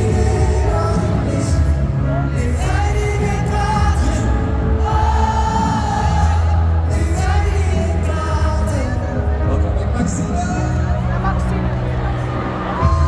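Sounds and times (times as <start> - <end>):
live pop song over pa: 0.0 - 13.0.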